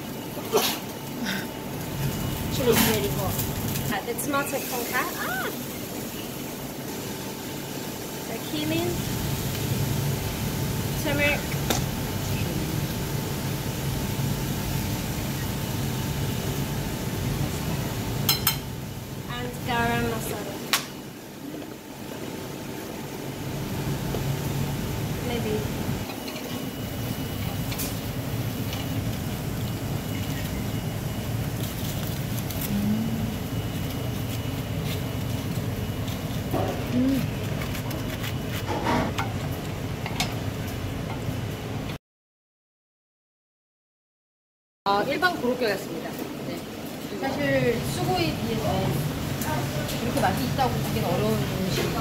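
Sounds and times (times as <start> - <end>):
kitchen ventilation hum: 0.0 - 42.0, 44.9 - 52.0.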